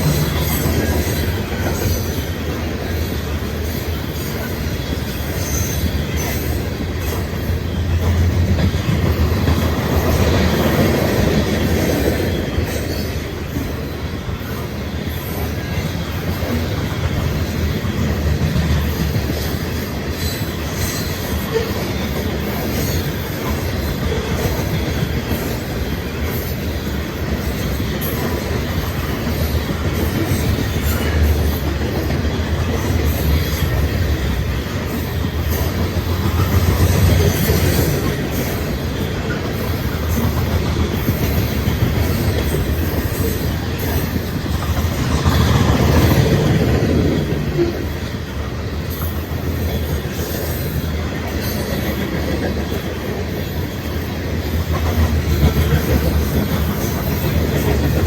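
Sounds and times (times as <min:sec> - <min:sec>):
train wheels rumbling on rail: 0:00.0 - 0:58.0
wheels clacking over rail joints: 0:00.0 - 0:58.0.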